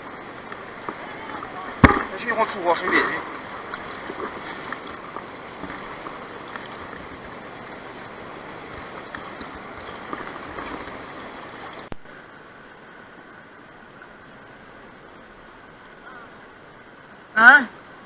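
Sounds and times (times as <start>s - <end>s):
river water running over rocks: 0.0s - 18.0s.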